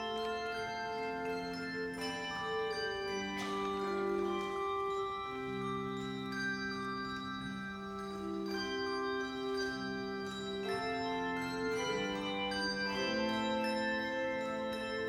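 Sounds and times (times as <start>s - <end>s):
handbell choir ringing: 0.0s - 15.0s.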